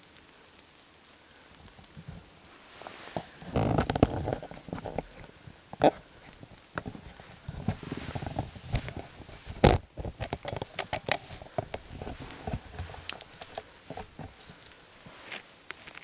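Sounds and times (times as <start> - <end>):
twig snapping: 3.1 - 16.0.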